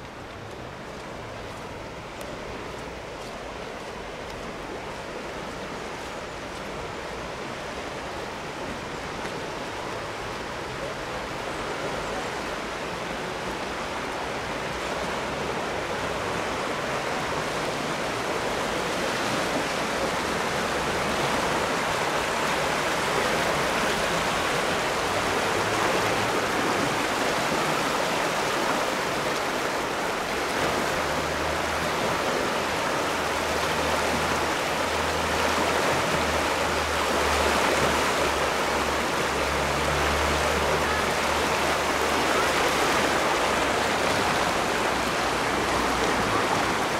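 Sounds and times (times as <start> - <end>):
river water rushing and churning: 0.0 - 46.9.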